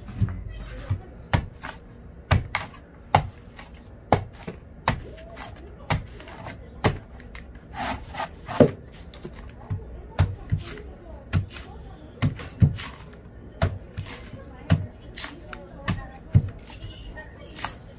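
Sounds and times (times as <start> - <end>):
knife chopping coconut husk: 0.2 - 16.9, 17.5 - 17.9.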